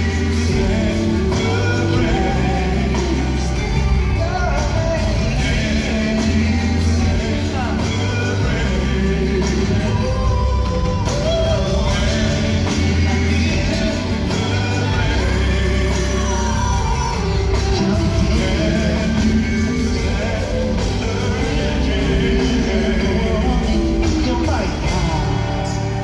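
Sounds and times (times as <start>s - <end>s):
band playing with strong bass: 0.0s - 26.0s
voices singing long notes: 0.0s - 26.0s.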